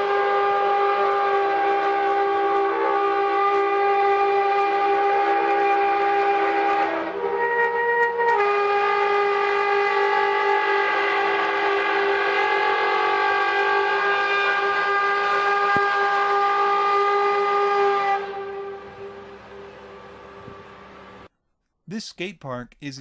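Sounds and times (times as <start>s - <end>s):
loud horn-like tone: 0.0s - 21.3s.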